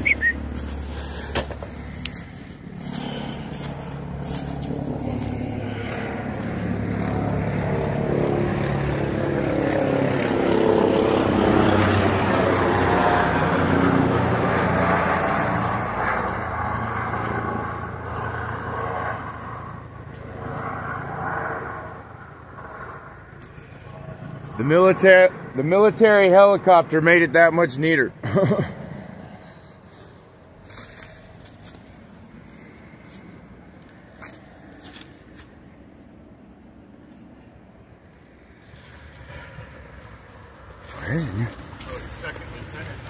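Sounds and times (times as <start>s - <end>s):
helicopter flying over: 0.0s - 43.0s.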